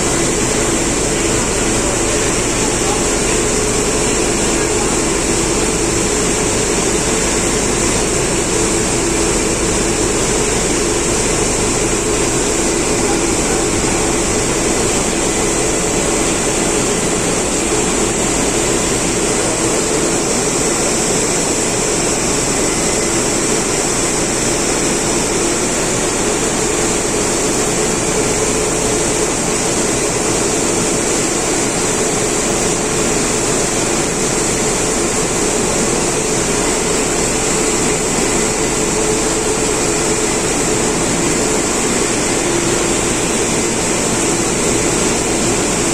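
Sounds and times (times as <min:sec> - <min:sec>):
mill and vacuum roaring with whine: 0:00.0 - 0:45.9.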